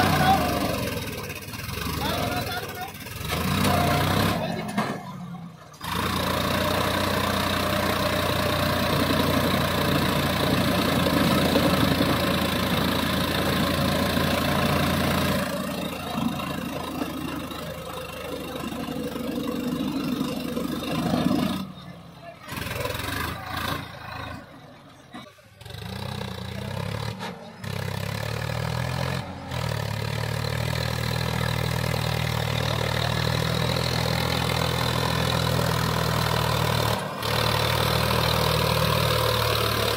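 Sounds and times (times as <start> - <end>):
tractor diesel engine working hard: 0.0 - 39.9.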